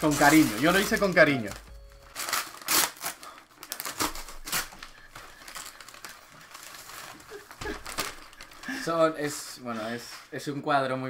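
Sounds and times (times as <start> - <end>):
wrapping paper tearing and crinkling: 0.0 - 10.3.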